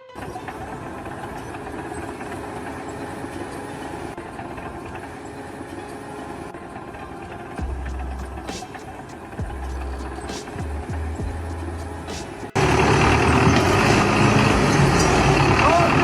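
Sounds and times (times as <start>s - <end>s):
machinery rattling and humming: 0.2s - 16.0s.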